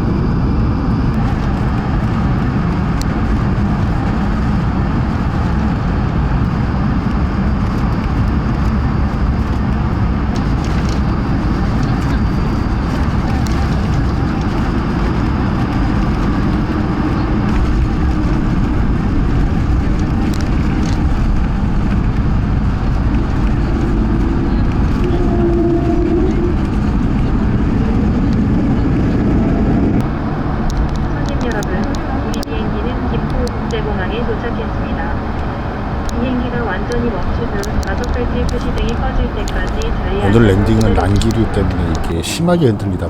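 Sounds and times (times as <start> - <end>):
airplane cabin engine rumble: 0.0 - 43.0.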